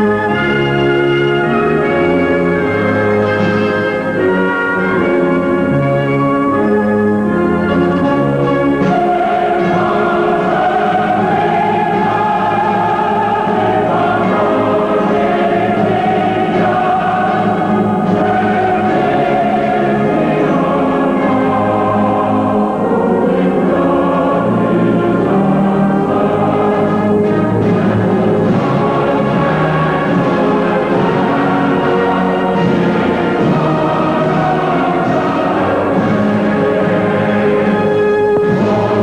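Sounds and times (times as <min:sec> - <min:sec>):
choir singing held notes: 0:00.0 - 0:39.0
orchestral accompaniment: 0:00.0 - 0:39.0.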